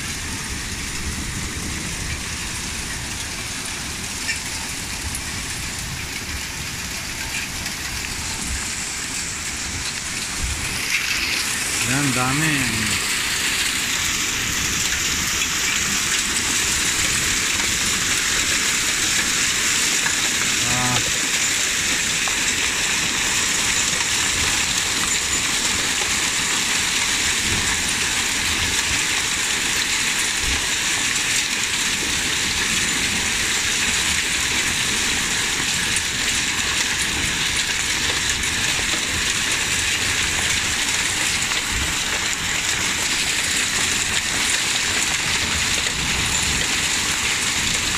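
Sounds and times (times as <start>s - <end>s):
hail and rain on wooden deck: 0.0s - 47.9s.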